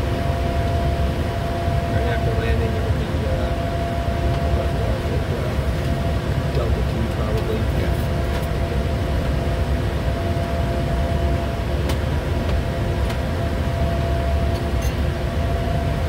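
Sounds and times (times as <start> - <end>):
faint steady hums: 0.0 - 16.0
jet cockpit rumble: 0.0 - 16.0.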